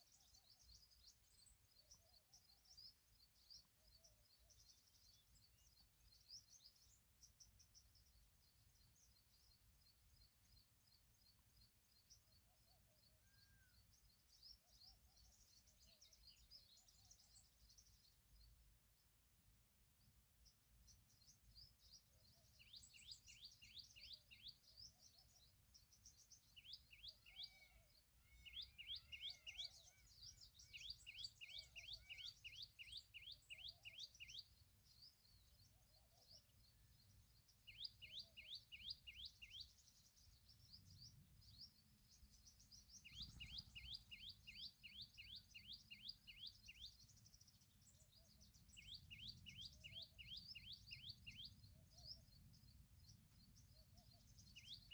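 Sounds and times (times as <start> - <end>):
small birds chirping in trills: 0.0 - 54.9.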